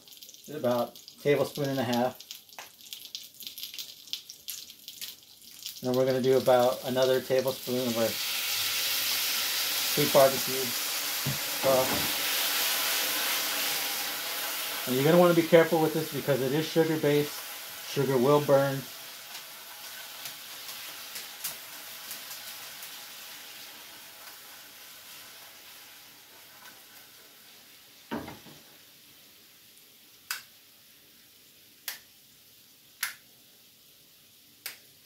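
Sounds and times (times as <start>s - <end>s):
food sizzling in a frying pan: 0.0s - 31.8s.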